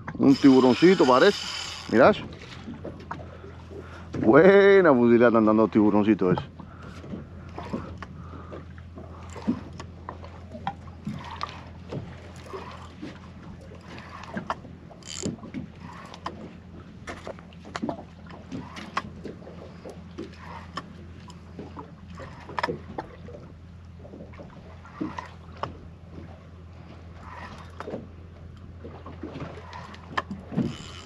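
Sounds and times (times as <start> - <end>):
boat engine hum: 0.0 - 31.0.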